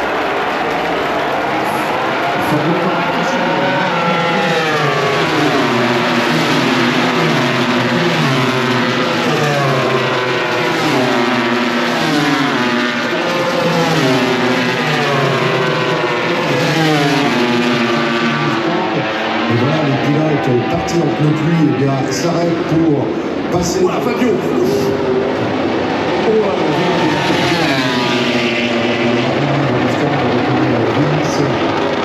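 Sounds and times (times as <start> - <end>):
racing motorcycles passing: 0.0 - 32.0.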